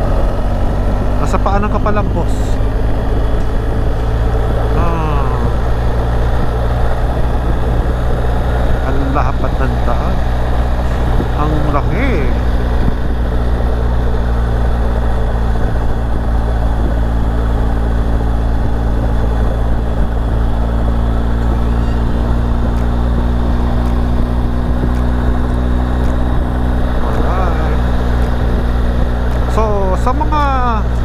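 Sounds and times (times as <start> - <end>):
motorcycle engine hum: 0.0 - 31.0
rushing wind noise: 0.0 - 31.0.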